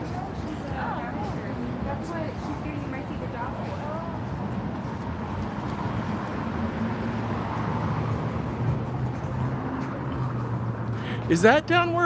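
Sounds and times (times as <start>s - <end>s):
street noise: 0.0s - 12.0s
vehicle engine humming: 0.0s - 12.0s.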